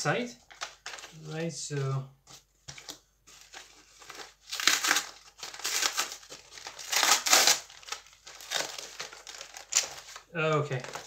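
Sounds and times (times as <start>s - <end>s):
package wrapping crinkling: 0.4s - 1.3s, 2.6s - 11.0s.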